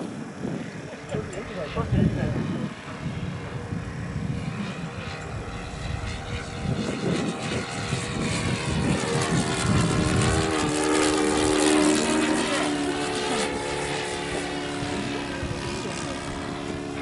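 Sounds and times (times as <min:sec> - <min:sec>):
model airplane engine drone: 0:00.0 - 0:17.0.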